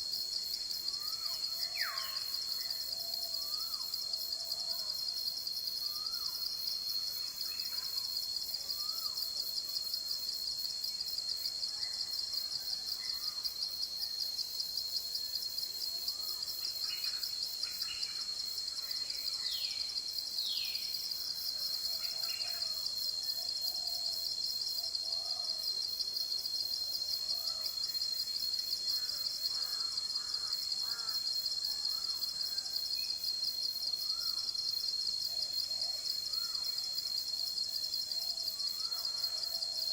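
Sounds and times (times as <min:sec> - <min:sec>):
pulsing insect chorus: 0:00.0 - 0:39.9.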